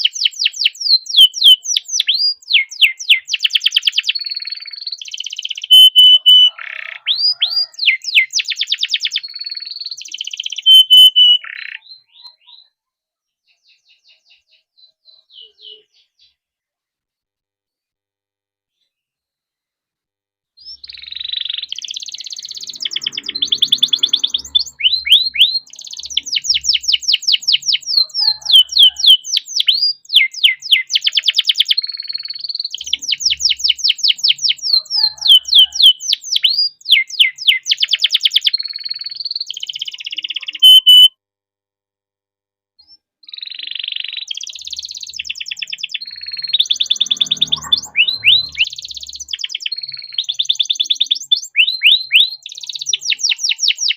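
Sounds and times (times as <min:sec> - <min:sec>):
canary singing trills: 0:00.0 - 0:16.4, 0:20.6 - 0:41.1, 0:42.8 - 0:53.9.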